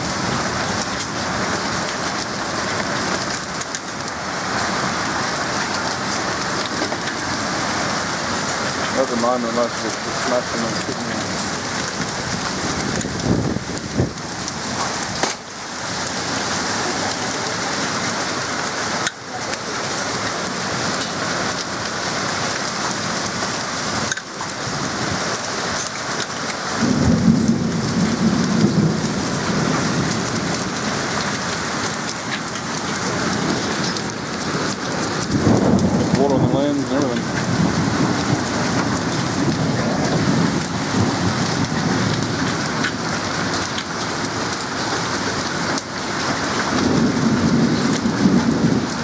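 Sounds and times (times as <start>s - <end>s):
thunder rumbling: 0.0s - 18.0s, 26.7s - 49.0s
heavy rain and hail: 0.0s - 49.0s.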